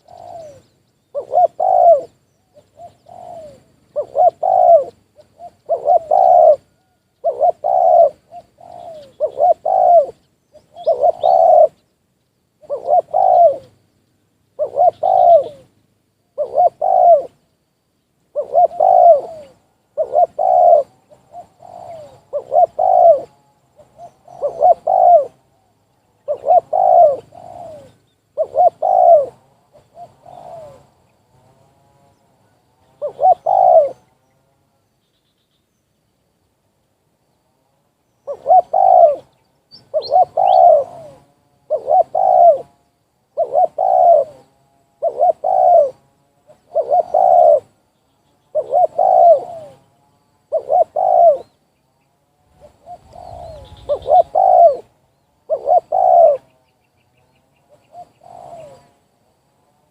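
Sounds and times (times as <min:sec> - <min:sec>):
dove cooing: 0:00.0 - 0:11.9, 0:12.6 - 0:13.8, 0:14.5 - 0:17.5, 0:18.3 - 0:34.3, 0:37.8 - 0:59.2.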